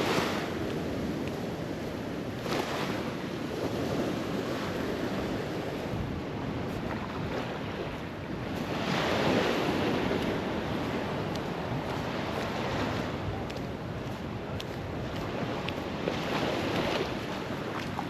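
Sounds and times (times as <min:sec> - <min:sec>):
ocean waves breaking: 0:00.0 - 0:18.0
wind buffeting microphone: 0:00.0 - 0:18.0.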